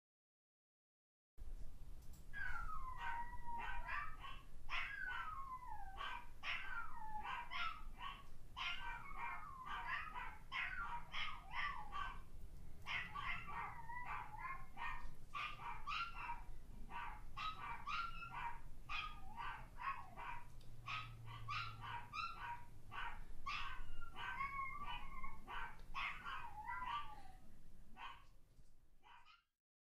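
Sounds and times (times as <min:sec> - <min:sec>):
dogs barking through a speaker: 0:02.4 - 0:27.4, 0:28.0 - 0:28.4, 0:29.0 - 0:29.5.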